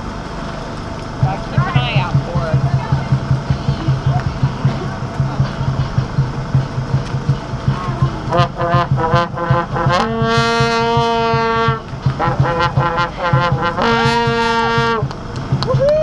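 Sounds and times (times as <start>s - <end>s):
music with steady beat: 1.2s - 16.0s.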